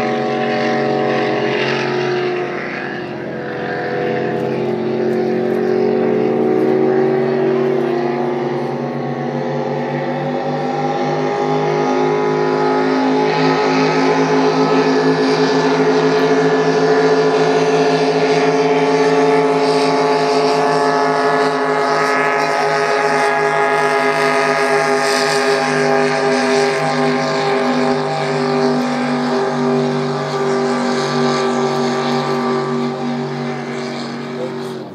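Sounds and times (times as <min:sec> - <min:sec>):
boat engines droning: 0:00.0 - 0:34.9.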